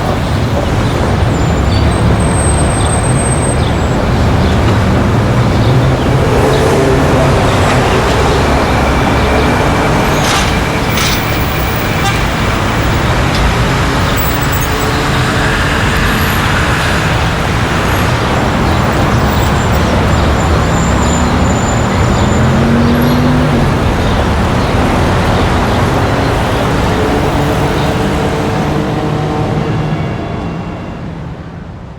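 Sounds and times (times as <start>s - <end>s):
city street traffic: 0.0s - 31.9s
engine rising in pitch: 3.9s - 31.2s.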